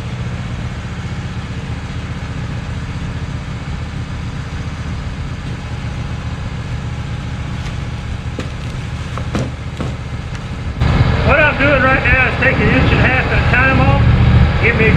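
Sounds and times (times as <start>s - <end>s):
band sawmill cutting log: 0.0s - 14.9s.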